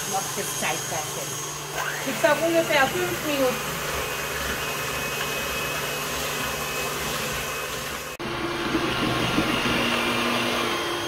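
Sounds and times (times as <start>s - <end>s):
electric mixer motor whirring: 0.0s - 11.0s.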